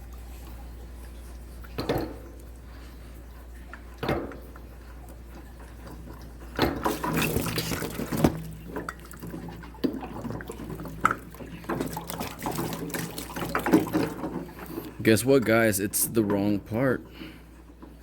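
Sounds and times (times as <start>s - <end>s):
water spilling and trickling: 0.0s - 17.0s.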